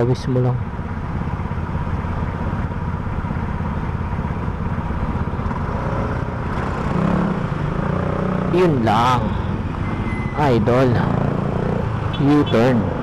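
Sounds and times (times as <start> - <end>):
motorcycle engines idling: 0.0 - 13.0
street traffic noise: 0.0 - 13.0.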